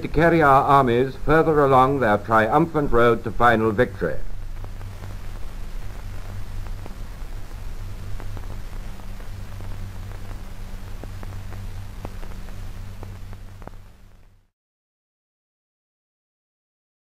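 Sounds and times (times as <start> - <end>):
crackles and pops: 0.0 - 14.5
film hiss: 0.0 - 14.5
low mains hum: 0.0 - 14.5.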